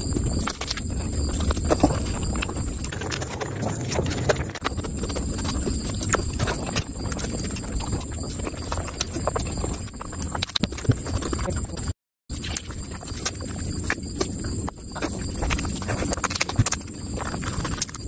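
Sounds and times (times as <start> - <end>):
close chewing: 0.0 - 18.0.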